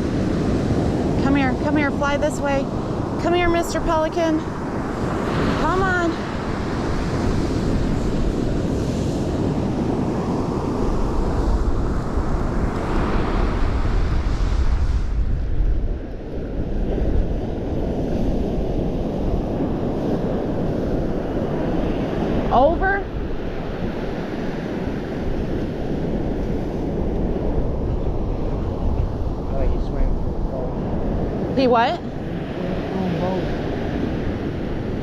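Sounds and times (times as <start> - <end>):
surf washing onto beach: 0.0 - 35.0
wind buffeting microphone: 0.0 - 35.0.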